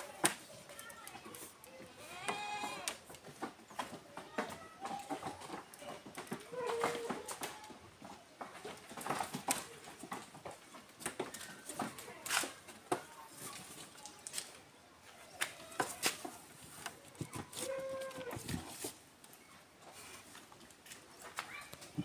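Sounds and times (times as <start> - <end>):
hooves knocking on wooden rails: 0.0 - 22.0.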